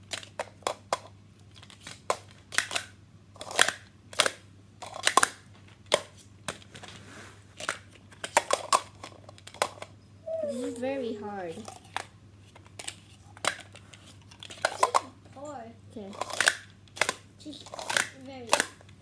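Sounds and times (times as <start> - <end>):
plastic cups clacking: 0.1 - 6.7, 7.6 - 9.9, 11.4 - 15.3, 16.0 - 19.0.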